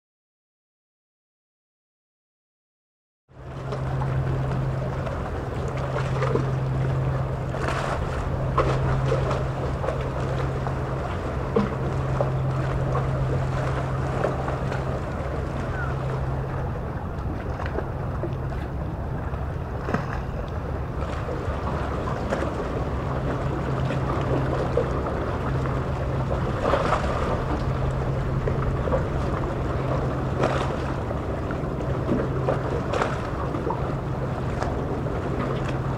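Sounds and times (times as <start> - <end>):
steady low hum: 3.3 - 35.9
sea waves washing: 3.4 - 35.9
wind buffeting microphone: 3.5 - 35.9.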